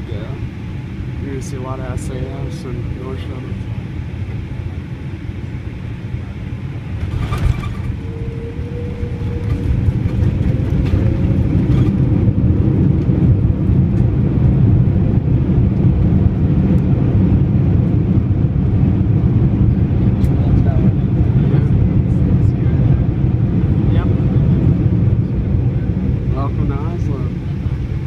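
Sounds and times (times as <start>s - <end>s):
rumble of engines and wheels: 0.0s - 28.0s.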